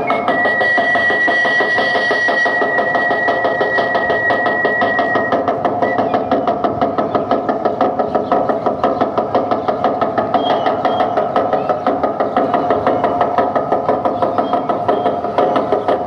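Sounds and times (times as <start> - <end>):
fast drumbeat: 0.0 - 16.0.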